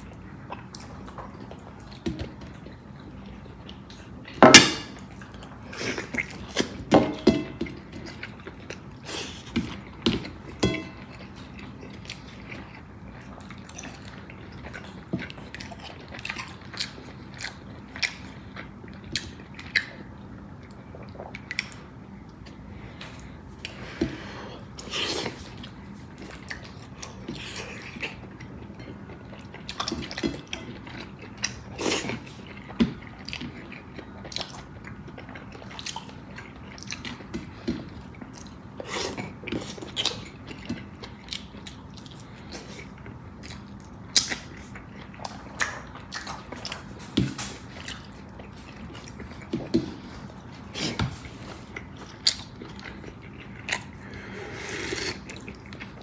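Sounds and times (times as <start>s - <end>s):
chewing and wet mouth sounds: 0.0s - 56.0s.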